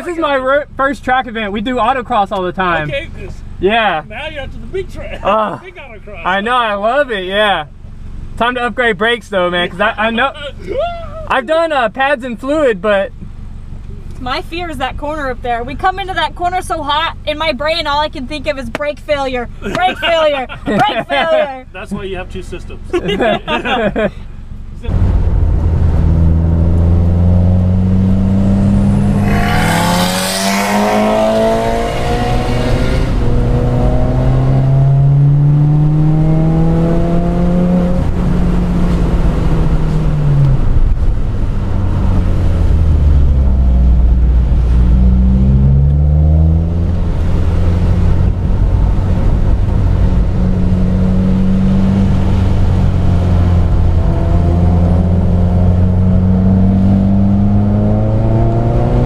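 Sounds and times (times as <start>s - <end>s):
car engine revving: 11.4s - 59.0s.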